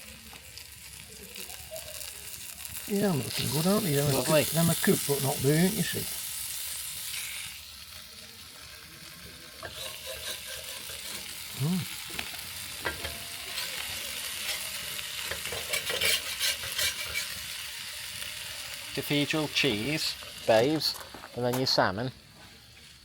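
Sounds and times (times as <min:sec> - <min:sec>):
sausages sizzling in a pan: 0:00.0 - 0:23.0.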